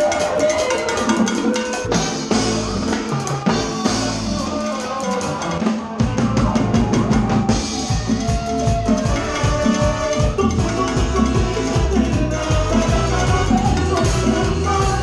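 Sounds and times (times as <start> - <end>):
live latin band playing: 0.0 - 15.0.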